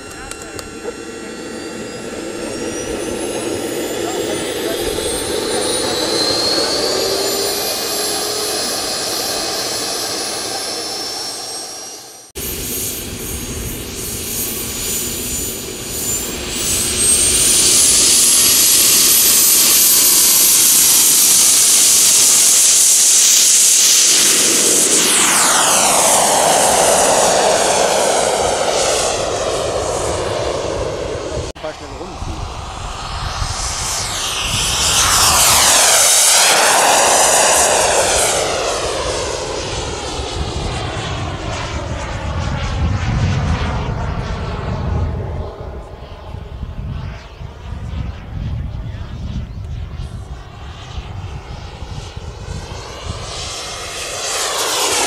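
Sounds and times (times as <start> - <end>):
model jet turbine whining: 0.0 - 55.0.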